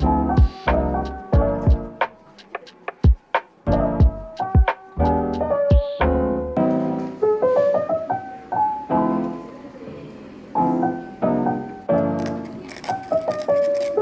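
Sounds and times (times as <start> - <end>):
gentle piano instrumental: 0.0 - 14.0.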